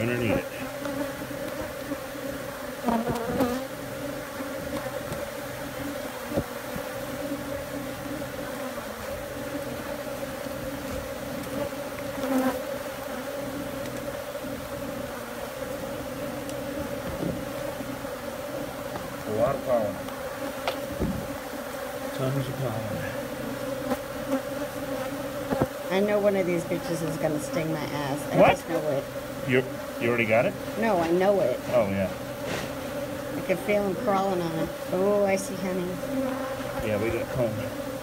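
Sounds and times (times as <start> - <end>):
honey bees humming: 0.0 - 38.0.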